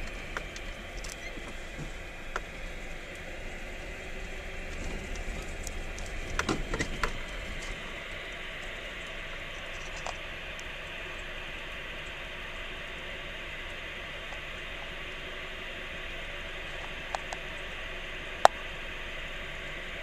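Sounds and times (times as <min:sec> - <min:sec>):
road and engine rumble in cabin: 0:00.0 - 0:20.0.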